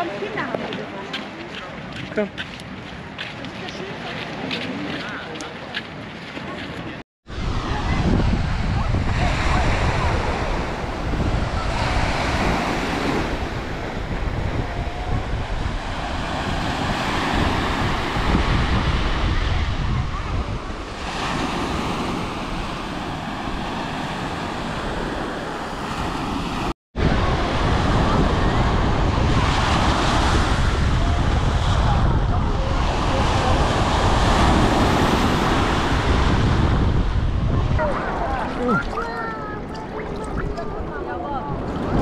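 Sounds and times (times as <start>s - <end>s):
wind rumbling on microphone: 0.0s - 42.0s
small waves breaking on shore: 7.3s - 42.0s.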